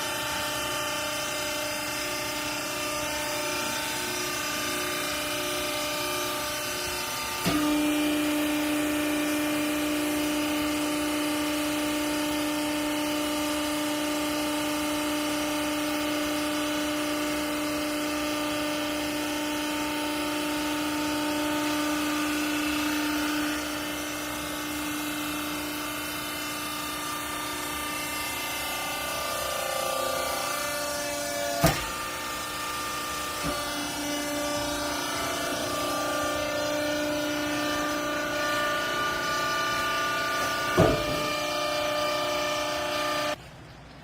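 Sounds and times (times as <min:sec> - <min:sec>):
hydraulic power unit humming: 0:00.0 - 0:44.0
machine noise: 0:00.0 - 0:44.0.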